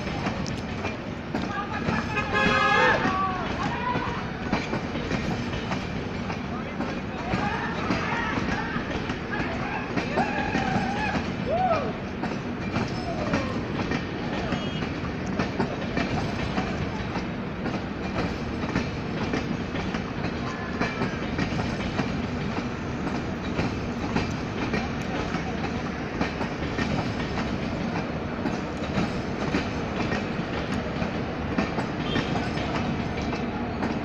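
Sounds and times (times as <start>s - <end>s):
train wheel rumble: 0.0s - 34.0s
wheels clacking over rail joints: 0.0s - 34.0s.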